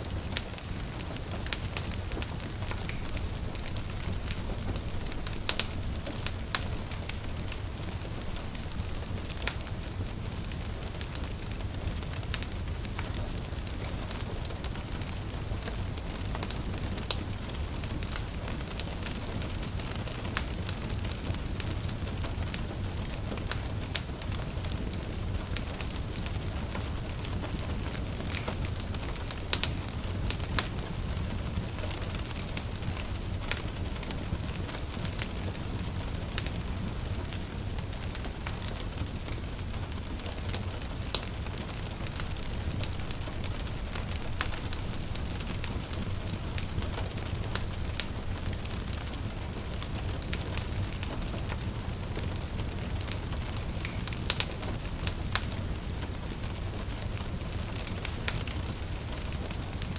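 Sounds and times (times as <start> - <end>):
rain pattering on window: 0.0 - 59.9
wood fire crackling and popping: 0.0 - 59.9.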